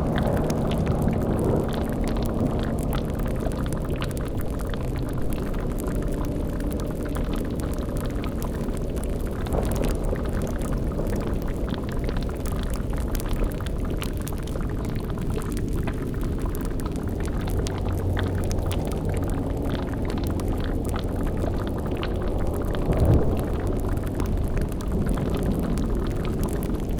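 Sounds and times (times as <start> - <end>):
bubbling pops and crackles: 0.0 - 26.9
low rumbling drone: 0.0 - 26.9.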